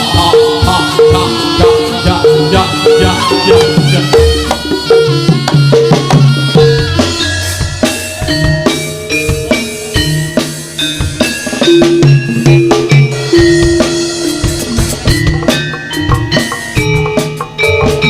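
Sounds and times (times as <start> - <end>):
repeating pitched melody: 0.0 - 18.0
steady drumming: 0.0 - 18.0.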